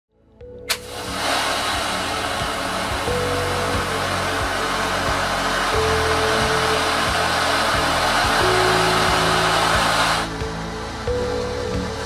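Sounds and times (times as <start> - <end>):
music with steady beat: 0.4 - 12.0
firework fountain hissing: 0.7 - 10.4.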